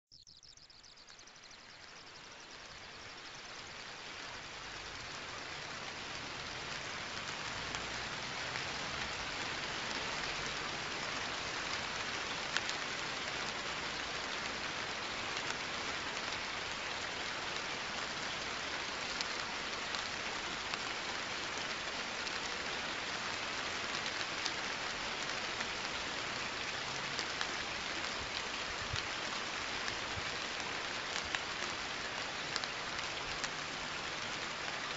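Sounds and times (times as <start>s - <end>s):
steady rain: 0.8s - 34.9s.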